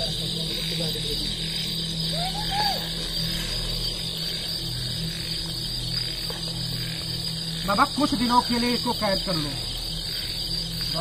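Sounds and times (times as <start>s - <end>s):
crickets chirping: 0.0s - 11.0s
low steady hum: 0.0s - 11.0s
rising-and-falling calls: 0.0s - 11.0s.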